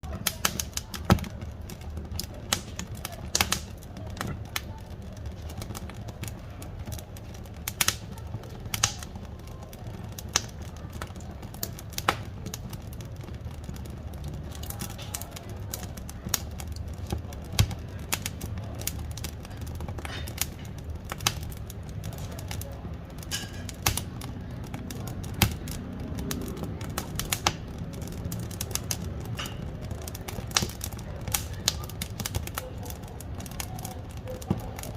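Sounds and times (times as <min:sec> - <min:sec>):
firewood crackling and popping: 0:00.0 - 0:34.9
low rumble of flames: 0:00.0 - 0:34.9.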